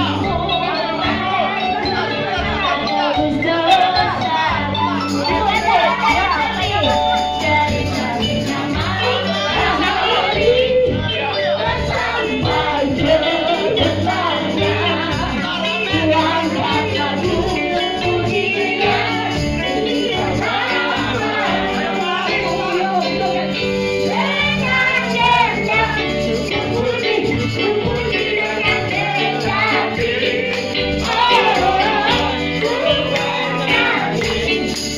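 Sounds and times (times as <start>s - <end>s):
band with steady bass: 0.0s - 34.9s
tambourines jingling: 0.0s - 34.9s
voices singing: 0.0s - 34.9s.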